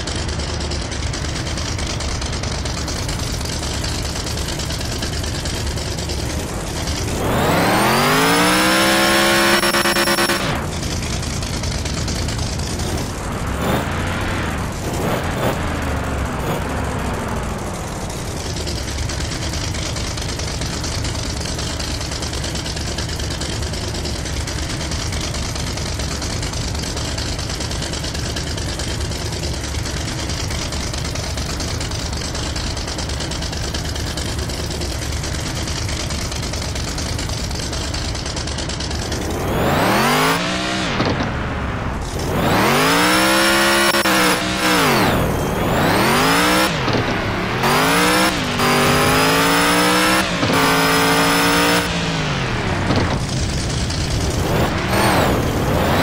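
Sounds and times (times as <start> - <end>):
vehicle engine revving and idling: 0.0 - 56.0.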